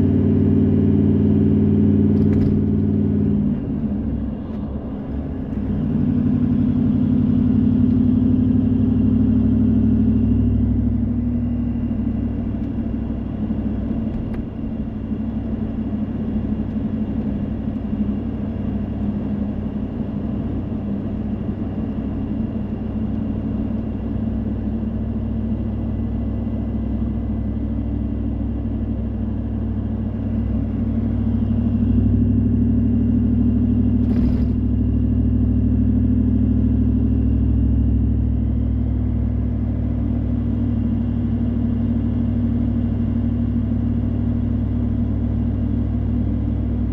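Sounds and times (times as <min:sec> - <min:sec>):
car engine and tyres on wet road: 0:00.0 - 0:46.9.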